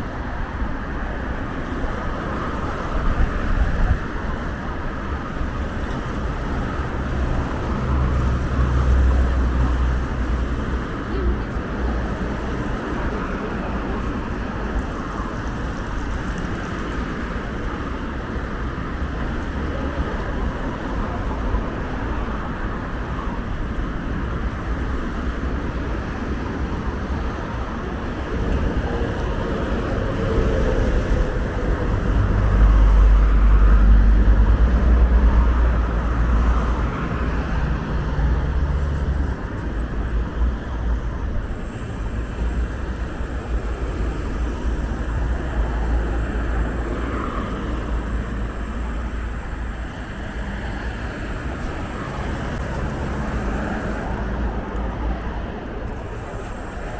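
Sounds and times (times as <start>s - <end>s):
passing cars humming: 0.3s - 23.4s, 24.4s - 56.9s.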